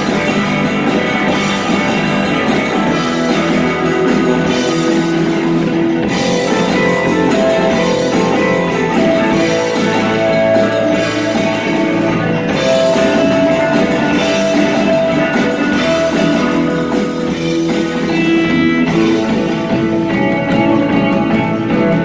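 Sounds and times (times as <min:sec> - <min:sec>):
drum kit and cymbals: 0:00.0 - 0:22.0
electric guitars: 0:00.0 - 0:22.0.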